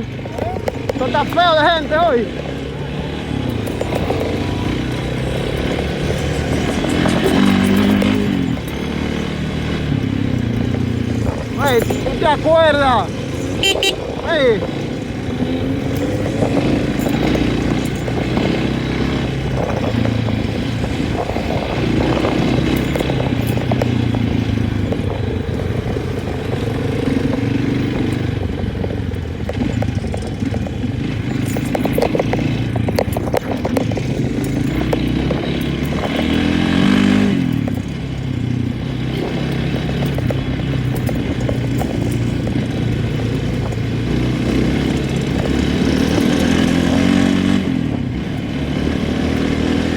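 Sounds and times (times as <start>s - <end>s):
rattling and clatter: 0.0s - 49.9s
vehicle engine running: 0.0s - 49.9s.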